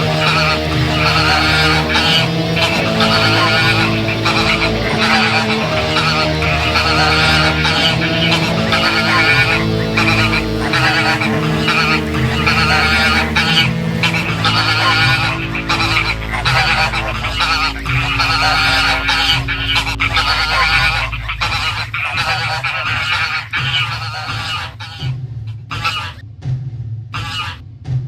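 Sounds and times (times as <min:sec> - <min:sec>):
low drone: 0:00.0 - 0:24.4
geese honking: 0:00.0 - 0:25.0, 0:25.7 - 0:26.2, 0:27.2 - 0:27.6.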